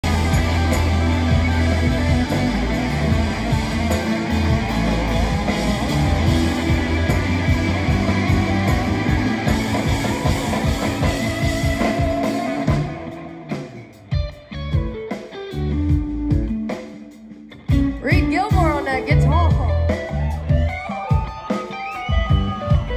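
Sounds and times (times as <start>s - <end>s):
live rock band playing loud: 0.0s - 22.9s
scattered guitar notes: 0.0s - 22.9s.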